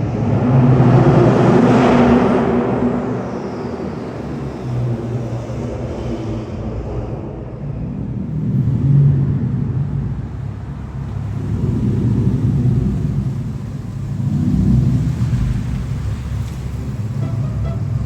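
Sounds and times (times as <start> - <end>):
road noise: 0.0 - 18.0
car engine running: 1.0 - 6.6, 8.4 - 18.0.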